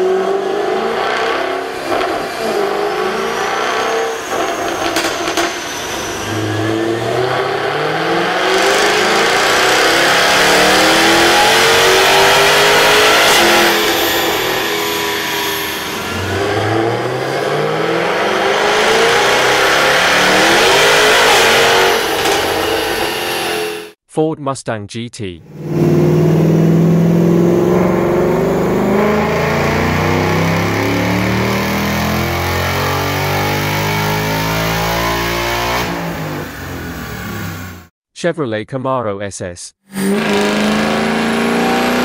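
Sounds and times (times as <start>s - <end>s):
car engine revving on dyno: 0.0s - 24.0s, 25.5s - 37.9s, 39.9s - 42.0s.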